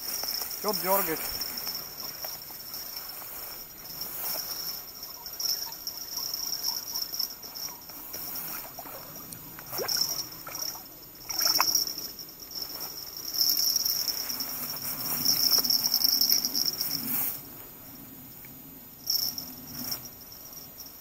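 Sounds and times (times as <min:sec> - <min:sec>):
rod and line rustling: 0:00.0 - 0:17.7
crickets chirping: 0:00.0 - 0:21.0.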